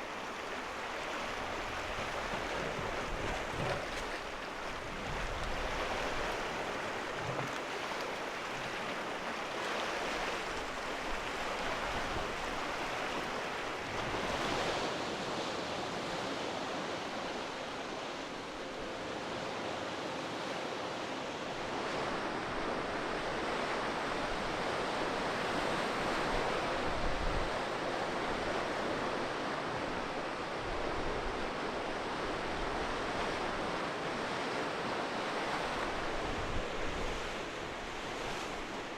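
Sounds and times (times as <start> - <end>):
waves washing on shore: 0.0 - 38.9.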